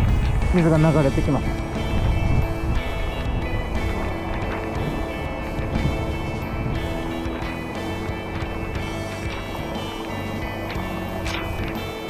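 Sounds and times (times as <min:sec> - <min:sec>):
background music held notes: 0:00.0 - 0:12.0
continuous low rumble: 0:00.0 - 0:12.0.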